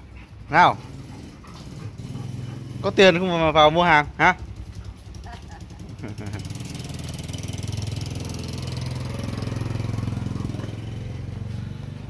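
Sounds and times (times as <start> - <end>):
motorbike engine running: 0.6 - 12.0.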